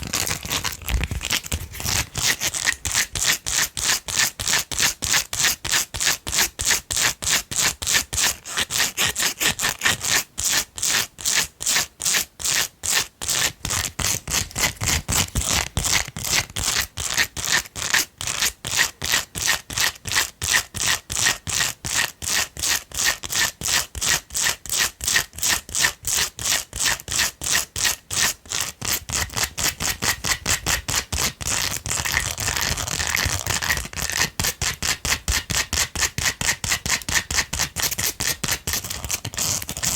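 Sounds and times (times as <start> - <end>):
fingernails scratching a silicone brush: 0.0 - 39.9.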